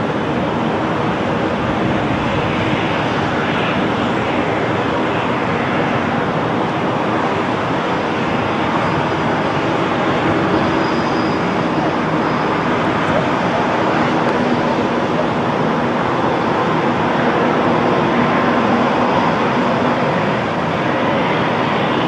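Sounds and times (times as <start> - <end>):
faint high whine: 0.0 - 22.0
jet engines running: 0.0 - 22.0.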